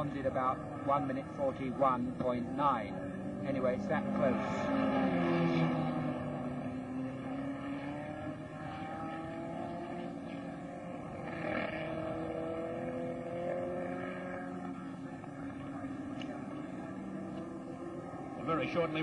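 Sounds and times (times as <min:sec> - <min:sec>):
racing car engines passing: 0:00.0 - 0:19.0.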